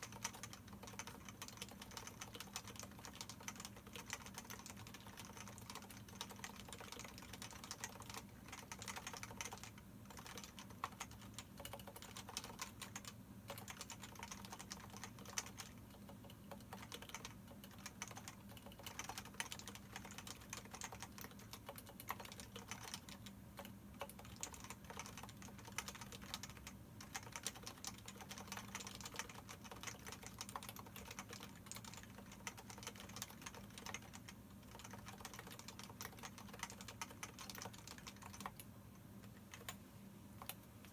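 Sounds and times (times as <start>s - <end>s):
fast keyboard typing: 0.0s - 39.8s, 40.4s - 40.9s.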